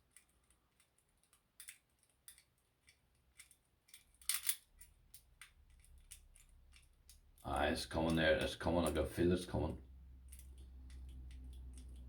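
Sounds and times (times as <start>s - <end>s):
lock picks clicking and scraping: 0.0s - 9.0s, 10.1s - 12.0s.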